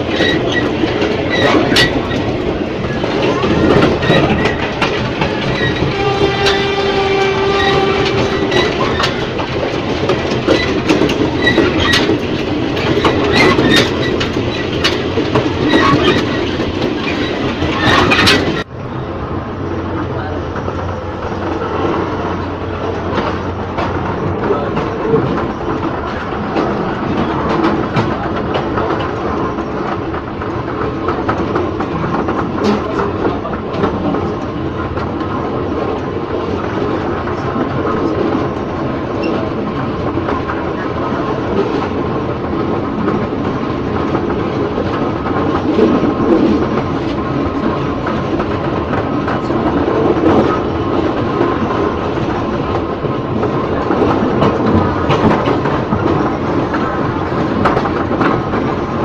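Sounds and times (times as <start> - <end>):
train running on track: 0.0 - 59.0.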